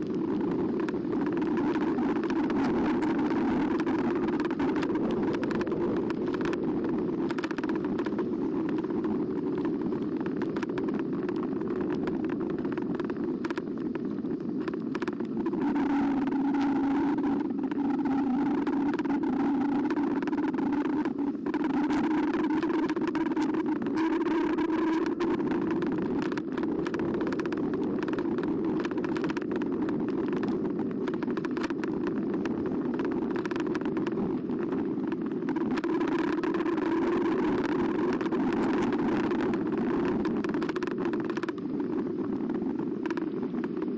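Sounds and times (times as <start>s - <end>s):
electric bike motor hum: 0.0s - 43.9s
rush of wind and tyres: 0.0s - 43.9s.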